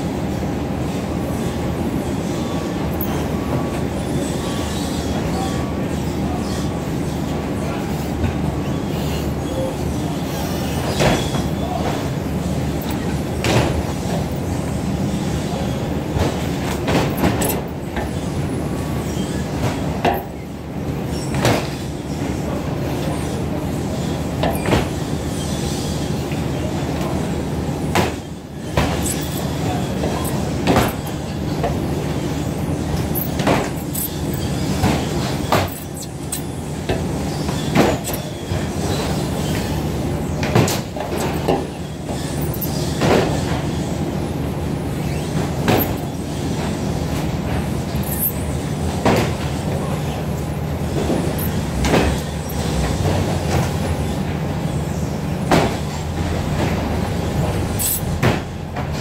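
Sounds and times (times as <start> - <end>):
conveyor rattling rumble: 0.0 - 59.0.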